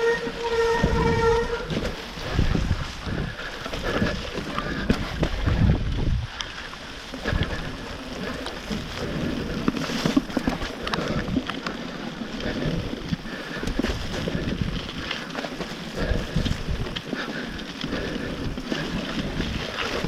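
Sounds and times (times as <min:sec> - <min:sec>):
bike rattles and knocks: 0:00.0 - 0:06.2, 0:07.0 - 0:20.0
bike tyres rumbling on trail: 0:00.0 - 0:20.0
wind buffeting microphone: 0:00.0 - 0:20.0.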